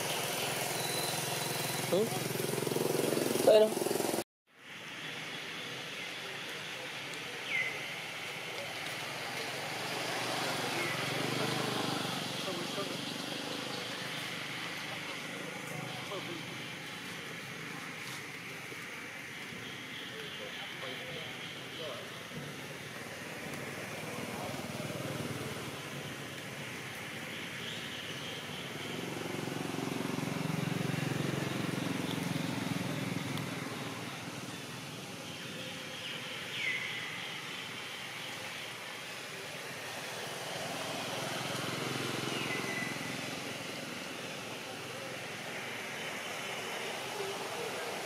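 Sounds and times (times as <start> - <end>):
outdoor noise: 0.0 - 48.0.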